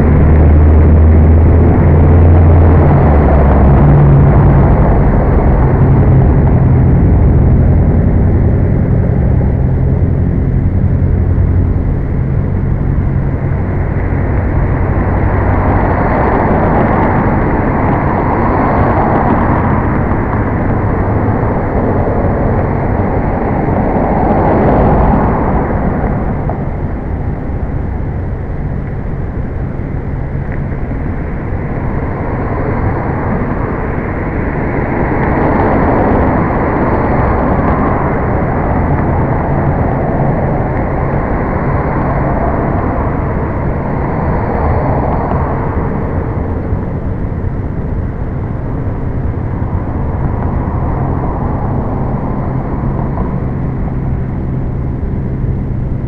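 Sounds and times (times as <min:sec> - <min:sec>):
cars passing: 0:00.0 - 0:56.0
steady low hum: 0:00.0 - 0:56.0.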